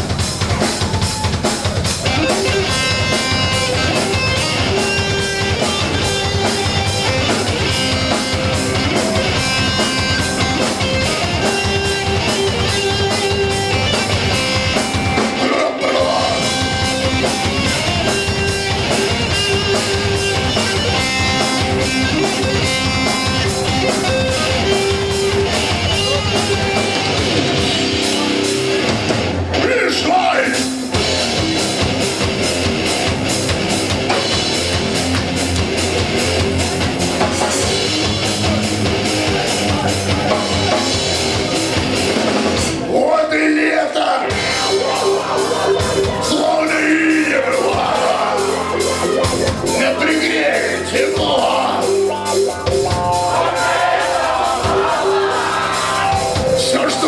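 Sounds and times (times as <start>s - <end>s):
distorted electric guitar: 0.0s - 43.0s, 44.0s - 57.0s
drum kit beat: 0.0s - 43.2s, 44.2s - 57.0s.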